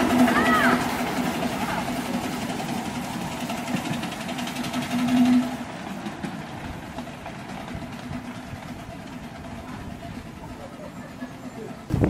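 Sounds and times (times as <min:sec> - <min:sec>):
miniature steam locomotive running: 0:00.0 - 0:12.0.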